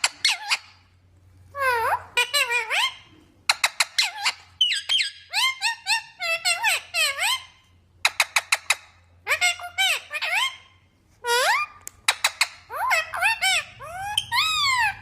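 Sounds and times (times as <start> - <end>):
parrot squawking: 0.0 - 0.8, 1.5 - 15.0.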